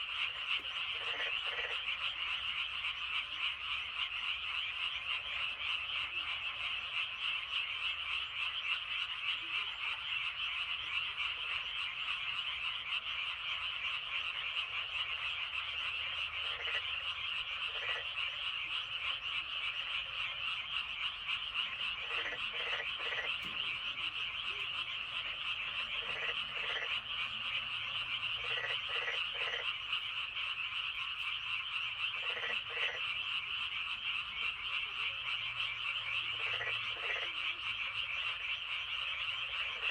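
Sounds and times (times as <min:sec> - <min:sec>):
chorus of frogs calling: 0:00.0 - 0:39.9
single frog croaks: 0:00.0 - 0:39.9.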